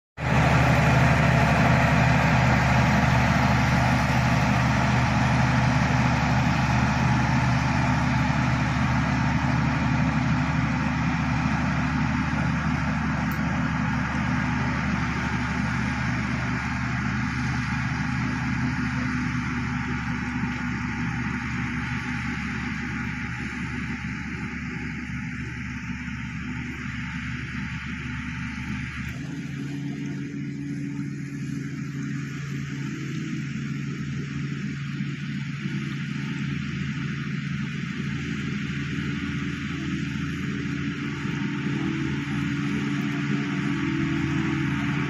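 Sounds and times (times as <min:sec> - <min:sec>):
bulldozer diesel engine running: 0:00.2 - 0:45.0.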